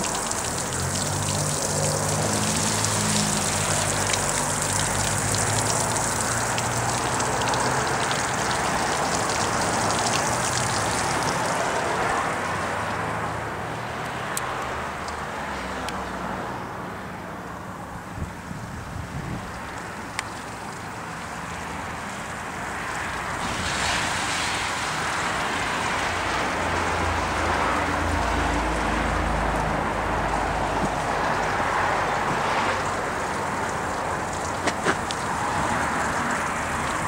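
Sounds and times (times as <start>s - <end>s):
hose water spraying and splashing: 0.0s - 13.3s, 19.5s - 37.0s.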